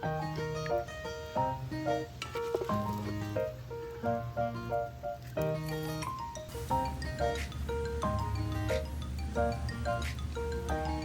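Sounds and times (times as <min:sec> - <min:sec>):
light instrumental tune: 0:00.0 - 0:11.0.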